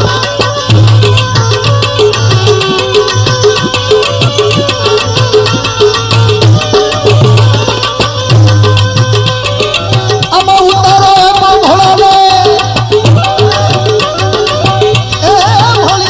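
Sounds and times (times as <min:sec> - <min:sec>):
hand drums: 0:00.0 - 0:16.0
ornamented melody line: 0:00.0 - 0:16.0.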